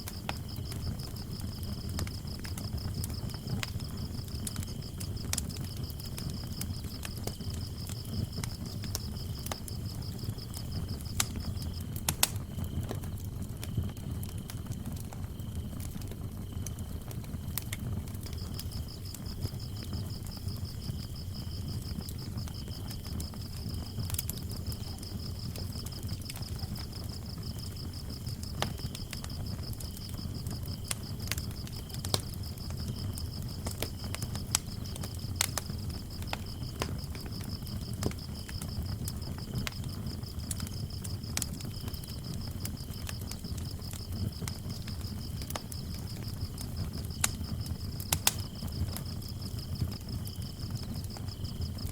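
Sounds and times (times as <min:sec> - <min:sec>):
crickets trilling: 0:00.0 - 0:51.9
low cricket chirp pulses: 0:00.0 - 0:51.9
wood fire crackling: 0:00.0 - 0:51.9.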